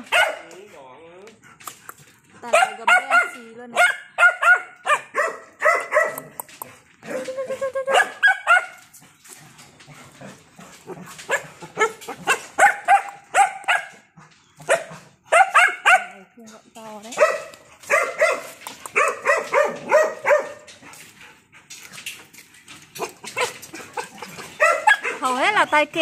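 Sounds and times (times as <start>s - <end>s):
young dogs yapping: 1.6s - 16.2s, 17.0s - 26.0s.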